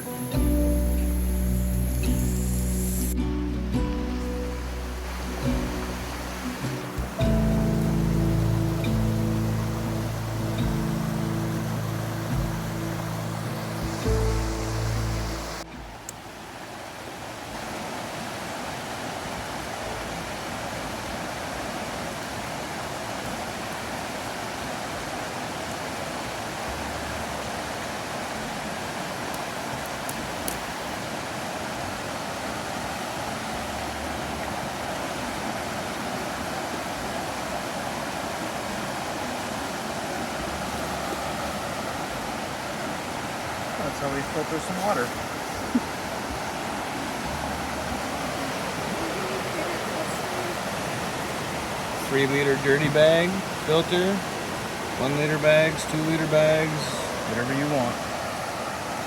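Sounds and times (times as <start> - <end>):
flowing stream rushing: 0.0 - 59.0.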